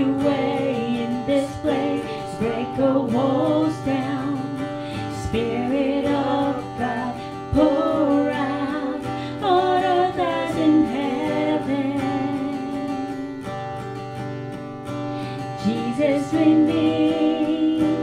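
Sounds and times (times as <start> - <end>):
woman singing into microphone: 0.0 - 13.5, 15.4 - 18.0
strummed acoustic guitar: 0.0 - 18.0.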